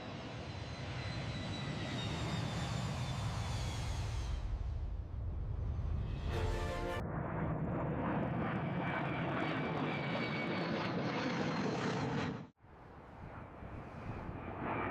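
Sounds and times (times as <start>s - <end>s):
airplane engine running: 0.0s - 14.9s.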